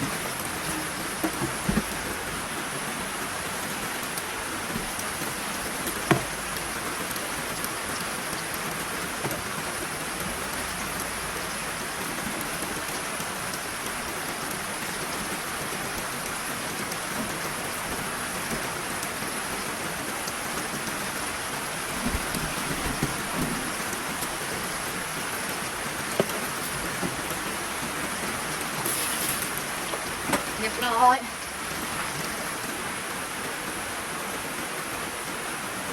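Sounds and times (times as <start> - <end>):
heavy rain: 0.0 - 35.9.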